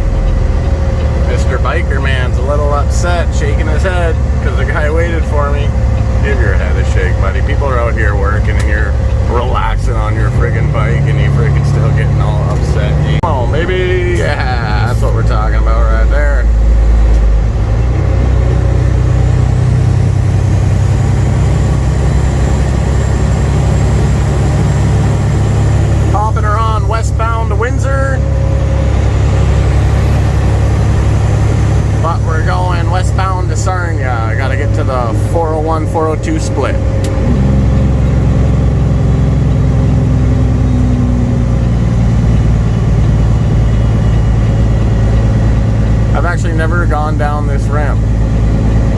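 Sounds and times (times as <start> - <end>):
diesel truck engine droning: 0.0 - 48.9.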